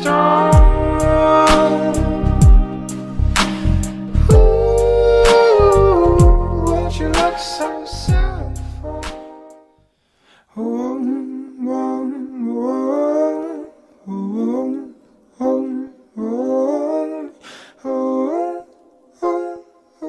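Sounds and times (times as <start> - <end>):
recorded song with sung melody: 0.0 - 20.0.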